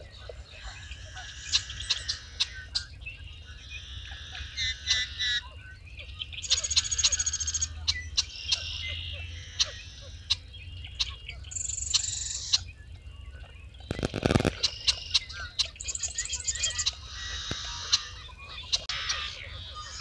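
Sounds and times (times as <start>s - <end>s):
birds trilling and calling: 0.0s - 20.0s.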